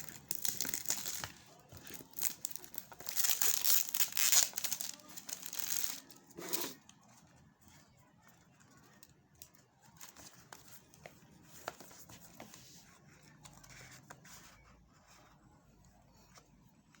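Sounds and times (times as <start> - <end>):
soft rustling of packaging: 0.0 - 17.0.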